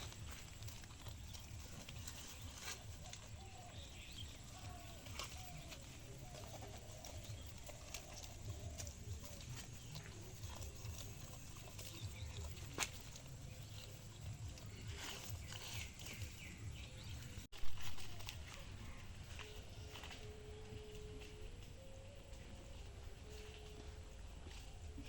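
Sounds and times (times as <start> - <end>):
goats feeding: 0.0 - 25.0.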